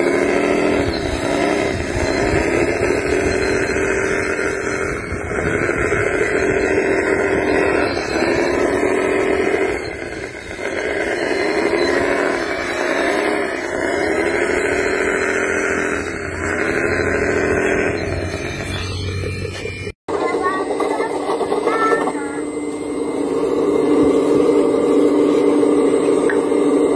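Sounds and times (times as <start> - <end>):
toy loader motor whining: 0.0 - 26.9.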